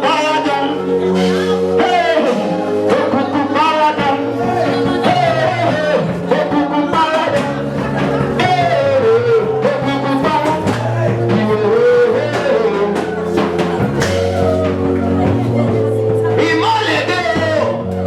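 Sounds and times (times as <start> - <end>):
held instrumental chords: 0.0 - 18.0
person singing: 0.0 - 18.0
steady bass: 0.0 - 18.0.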